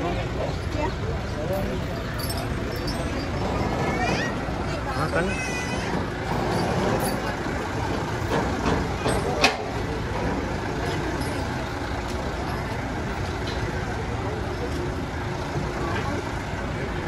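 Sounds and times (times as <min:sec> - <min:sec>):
lorry engine idling: 0:00.0 - 0:17.0.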